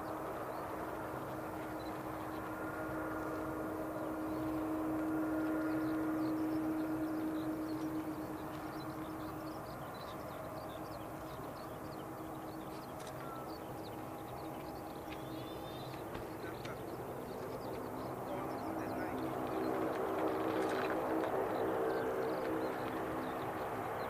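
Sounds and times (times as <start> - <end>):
jet engines humming: 0.0 - 24.0.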